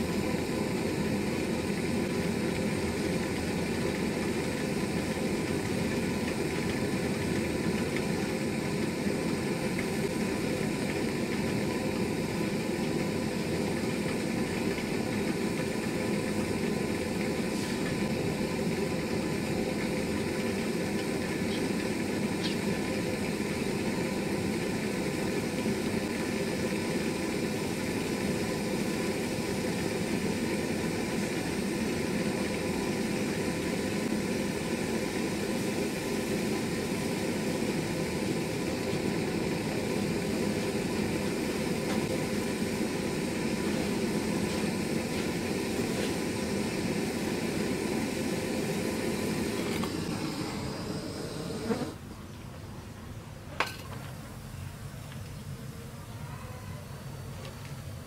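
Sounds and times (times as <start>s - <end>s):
gas torch burning: 0.0s - 52.0s.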